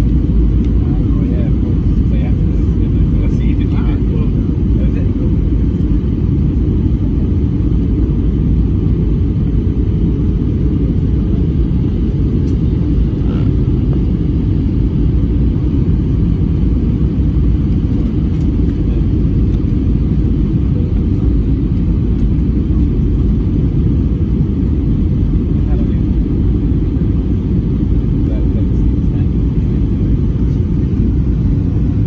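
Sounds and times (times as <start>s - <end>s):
jet airliner cabin rumble: 0.0s - 32.0s.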